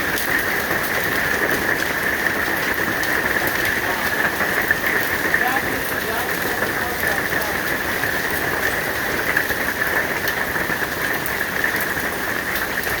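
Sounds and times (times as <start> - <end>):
hail and rain falling: 0.0 - 13.0.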